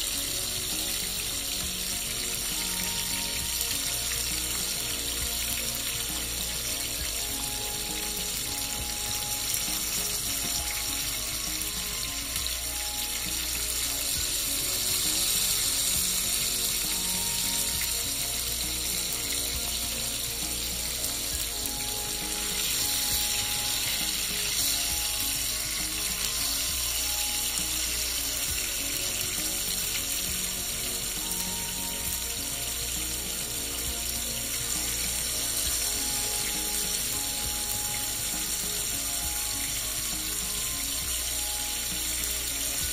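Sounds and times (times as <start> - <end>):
fish sizzling in oil: 0.0 - 42.9.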